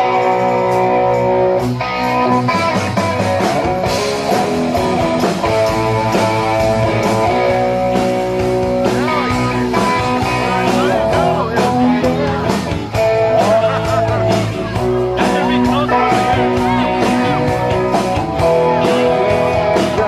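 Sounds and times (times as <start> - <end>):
electric guitar strumming: 0.0 - 20.0
steady drum beat: 0.0 - 20.0.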